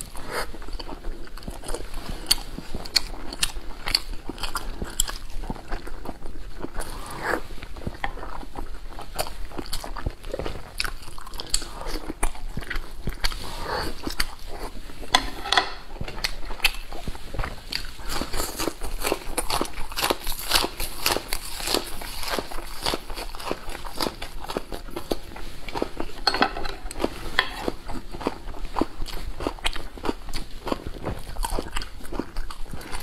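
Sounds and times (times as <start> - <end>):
chewing with wet mouth clicks: 0.0 - 14.8, 15.9 - 33.0.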